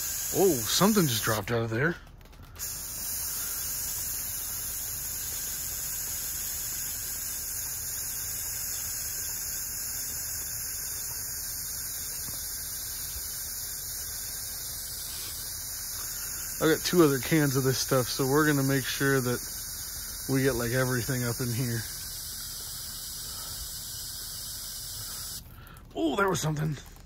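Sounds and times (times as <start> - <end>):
aerosol spray hissing: 0.0 - 1.5, 2.6 - 25.4.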